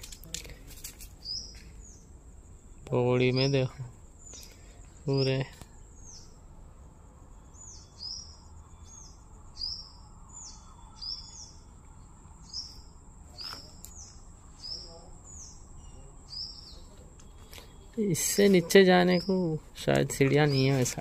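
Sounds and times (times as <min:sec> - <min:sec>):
small bird calling: 0:01.2 - 0:06.4, 0:07.4 - 0:21.0.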